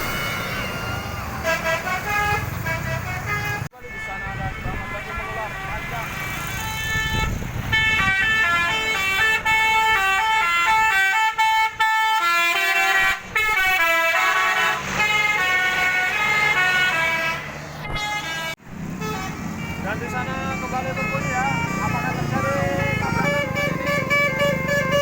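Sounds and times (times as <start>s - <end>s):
air horns playing a tune: 0.0s - 5.9s, 6.5s - 25.0s.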